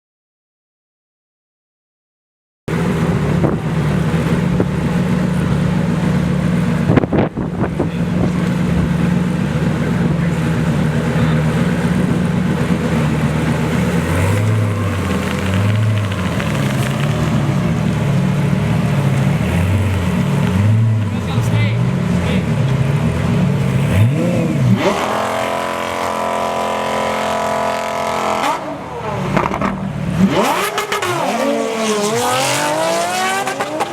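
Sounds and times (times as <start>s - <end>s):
car engine idling and revving: 2.7s - 33.9s.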